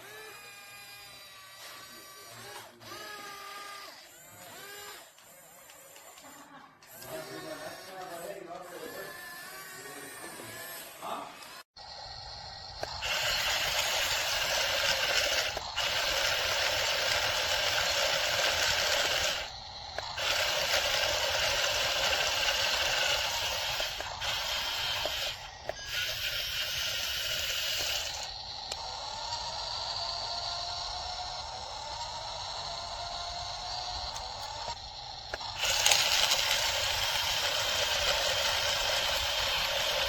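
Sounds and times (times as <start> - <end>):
toy electric motors and gearboxes: 0.0 - 40.0.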